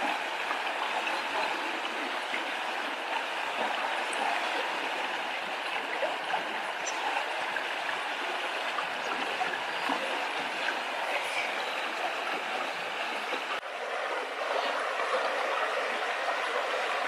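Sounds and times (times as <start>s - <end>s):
river rippling over stones: 0.0s - 17.0s.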